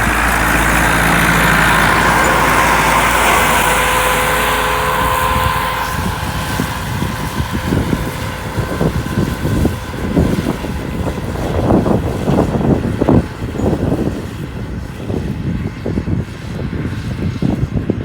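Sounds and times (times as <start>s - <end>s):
tractor engine drone: 0.0s - 18.0s
wind buffeting microphone: 0.0s - 18.0s.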